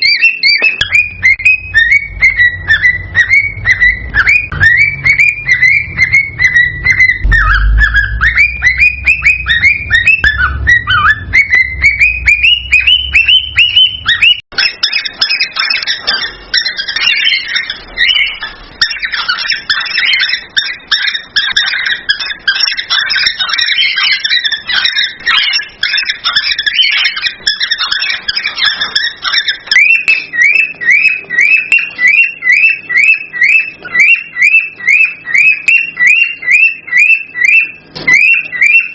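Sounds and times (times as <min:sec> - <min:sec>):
cockatiel chirping and warbling: 0:00.0 - 0:38.9.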